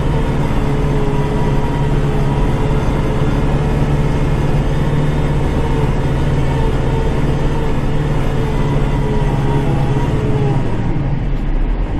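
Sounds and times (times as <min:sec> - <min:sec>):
diesel tractor engine under load: 0:00.0 - 0:11.9.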